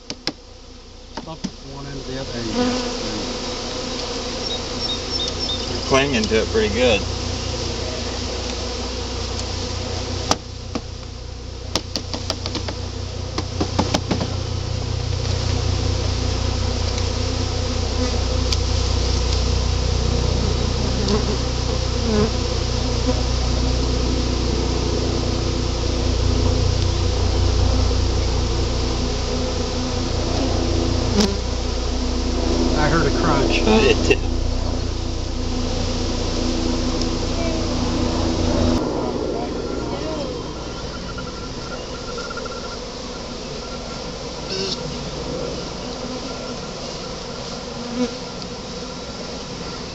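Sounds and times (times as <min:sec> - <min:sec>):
bees buzzing: 0:00.0 - 0:49.9.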